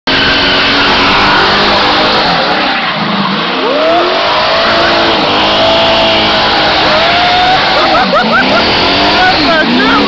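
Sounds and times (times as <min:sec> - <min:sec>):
car engine revving: 0:00.0 - 0:10.0
tyres squealing on pavement: 0:00.1 - 0:10.0.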